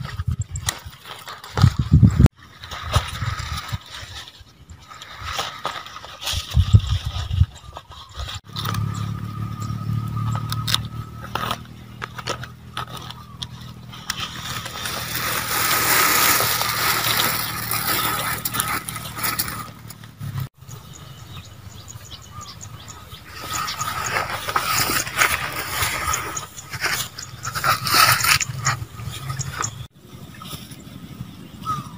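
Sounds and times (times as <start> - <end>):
leaves rustling and crinkling: 0.0 - 20.9, 23.0 - 31.9.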